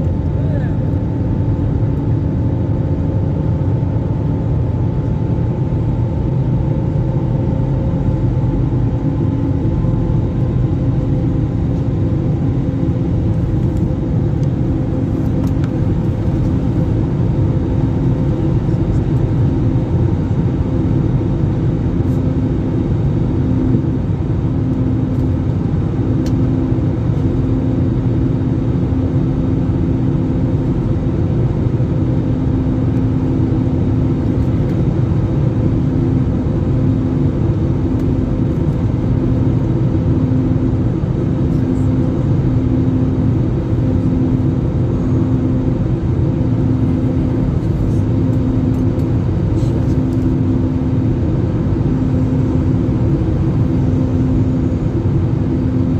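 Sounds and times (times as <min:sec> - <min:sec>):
airliner engine and airflow rumble: 0:00.0 - 0:55.9.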